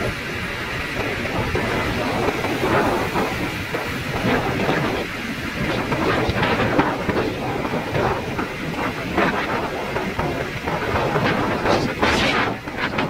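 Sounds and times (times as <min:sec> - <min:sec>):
wind and road noise: 0:00.0 - 0:13.0
wind buffeting on microphone: 0:00.0 - 0:13.0.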